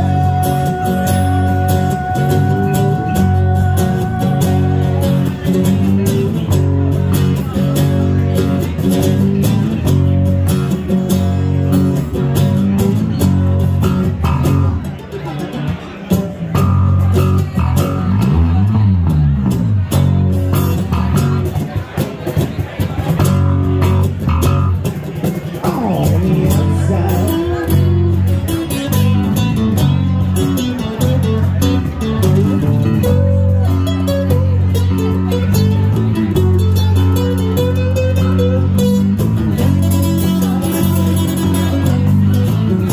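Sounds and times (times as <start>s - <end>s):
acoustic guitar strumming: 0.0s - 42.9s
electric bass notes: 0.0s - 42.9s.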